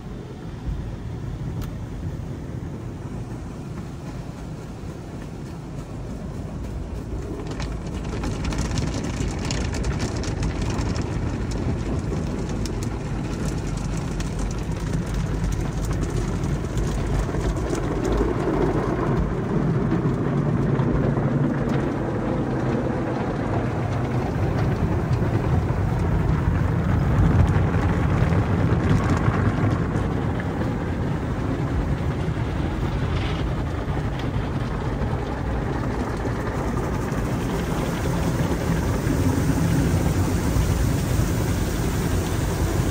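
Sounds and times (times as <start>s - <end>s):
car wash machinery rumble: 0.0s - 42.9s
water spraying on car windshield: 0.1s - 42.9s.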